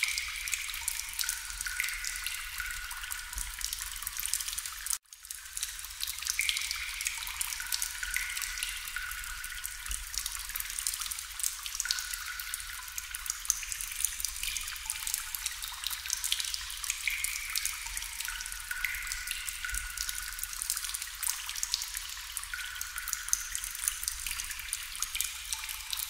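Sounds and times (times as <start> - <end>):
water dripping: 0.0 - 26.0.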